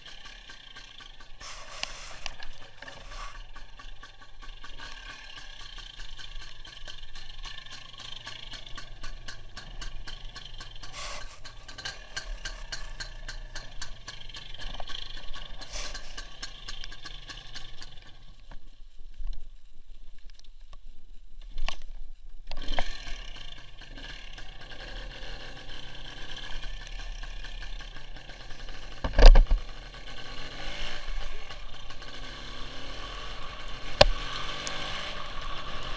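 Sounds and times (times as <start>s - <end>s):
rattling and clicks: 0.0s - 30.2s
motorcycle engine running: 0.0s - 35.9s.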